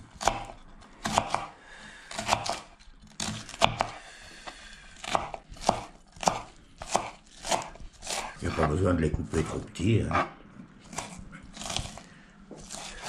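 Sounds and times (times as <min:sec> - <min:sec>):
knife slicing onion on board: 0:00.1 - 0:01.5, 0:02.1 - 0:13.0.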